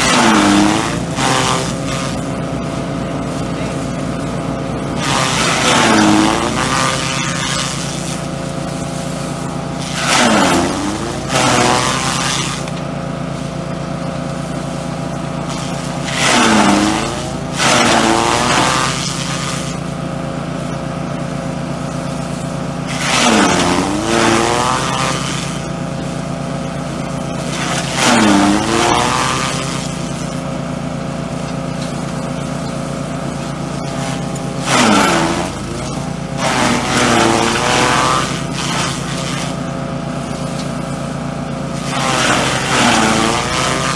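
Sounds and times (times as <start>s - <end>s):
grass shredding in blades: 0.0s - 43.9s
small engine running: 0.0s - 43.9s.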